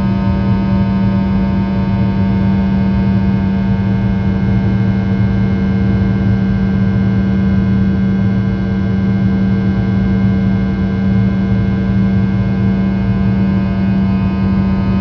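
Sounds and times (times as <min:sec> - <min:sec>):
jet engine drone in cabin: 0:00.0 - 0:15.0.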